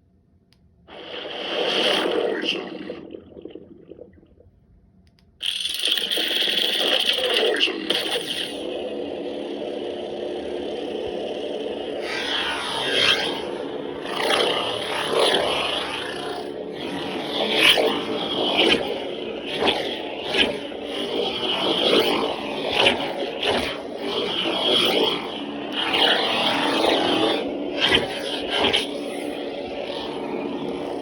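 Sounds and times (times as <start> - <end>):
lightsaber electric hum: 0.2 - 31.0.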